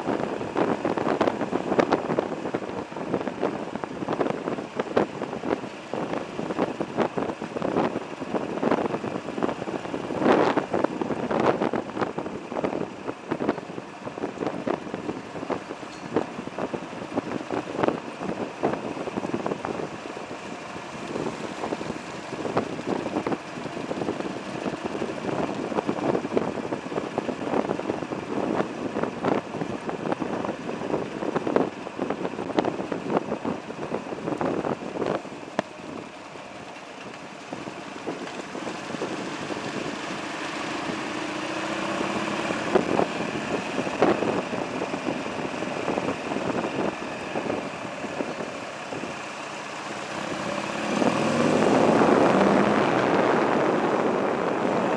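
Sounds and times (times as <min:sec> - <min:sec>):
motorcycle engine running: 0:00.0 - 0:54.9
wind on microphone: 0:00.0 - 0:54.9.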